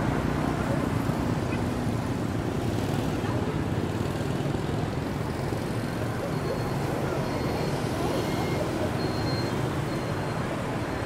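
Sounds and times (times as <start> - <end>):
steady road traffic: 0.0 - 11.0.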